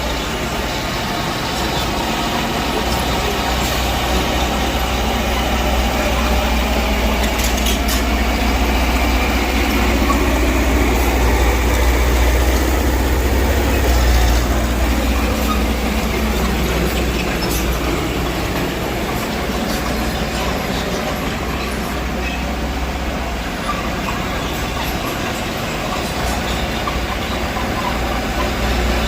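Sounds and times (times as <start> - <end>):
bulldozer diesel engine droning: 0.0 - 29.0.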